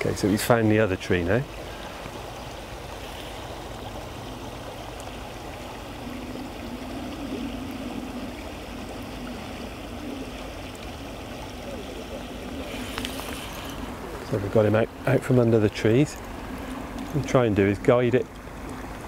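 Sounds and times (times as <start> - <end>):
low steady hum: 0.0 - 19.0
river water running over rocks: 0.0 - 19.0.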